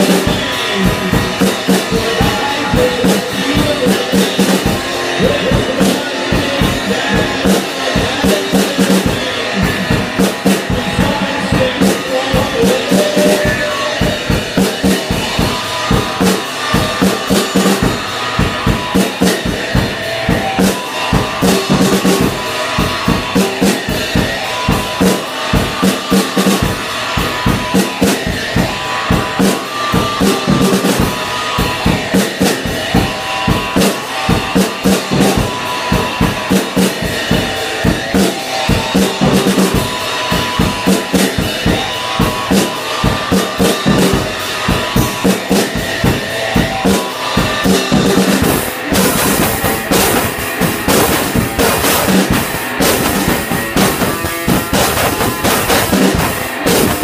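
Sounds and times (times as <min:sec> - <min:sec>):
drum kit beat: 0:00.0 - 0:57.0
electric guitar: 0:00.0 - 0:57.0
splashy cymbals: 0:00.0 - 0:57.0.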